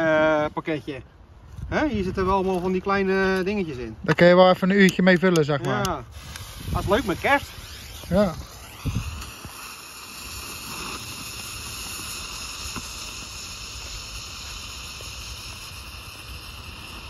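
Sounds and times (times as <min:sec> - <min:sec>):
ground firework hissing whine: 0:00.0 - 0:17.0.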